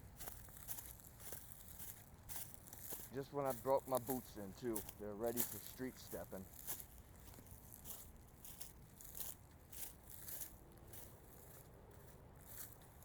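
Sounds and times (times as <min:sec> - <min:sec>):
boots crunching on dry ground: 0:00.0 - 0:13.0.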